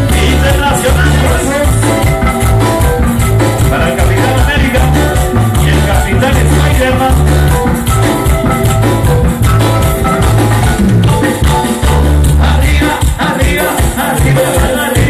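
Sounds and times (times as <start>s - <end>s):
latin dance music with heavy bass: 0.0s - 15.0s.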